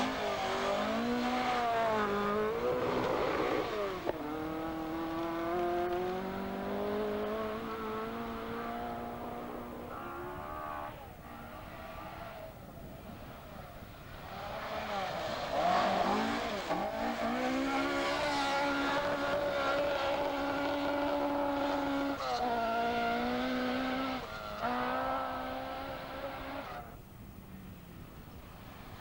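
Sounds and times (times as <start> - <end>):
rally car engine at high revs: 0.0 - 27.0.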